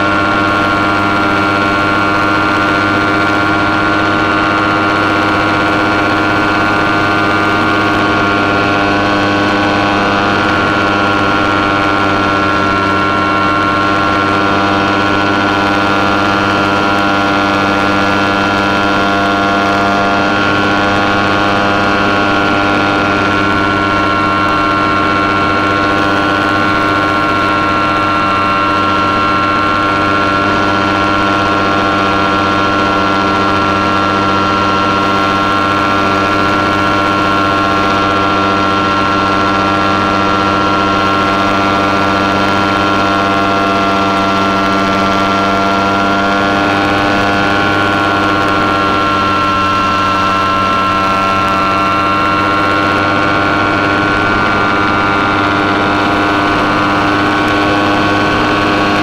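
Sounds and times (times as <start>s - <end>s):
model plane motor and propeller: 0.0s - 59.0s.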